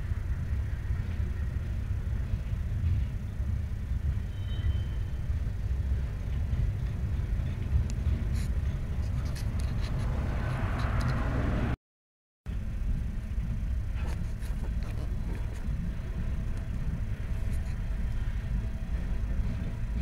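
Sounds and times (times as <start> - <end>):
wheels rumbling on rail: 0.0 - 11.8, 12.5 - 20.0.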